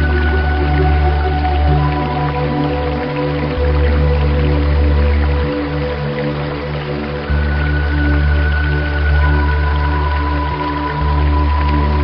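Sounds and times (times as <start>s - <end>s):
ambient synth-pad music: 0.0s - 12.0s
low drone: 0.0s - 12.0s
running water hiss: 0.0s - 12.0s.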